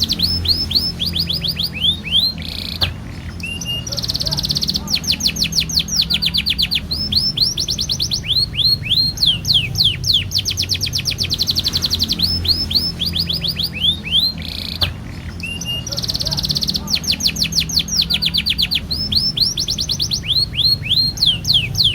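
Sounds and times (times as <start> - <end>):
canary singing trills: 0.0 - 21.9.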